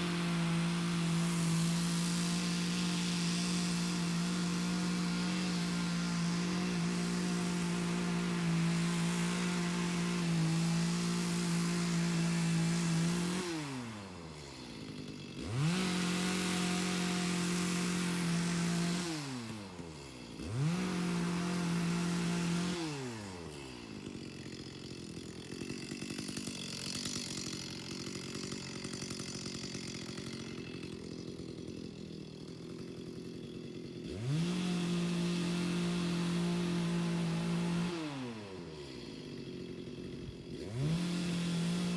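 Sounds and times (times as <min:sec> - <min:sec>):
chainsaw revving and idling: 0:00.0 - 0:41.9.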